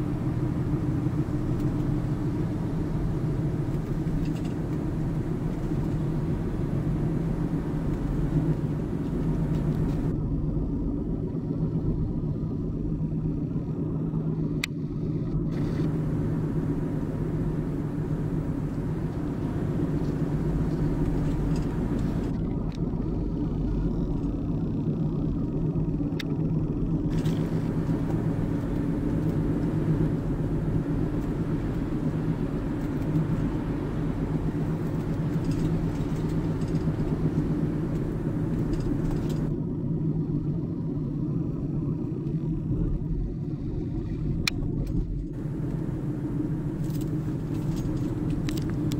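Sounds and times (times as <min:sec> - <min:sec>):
road and engine rumble in car: 0:00.0 - 0:48.9.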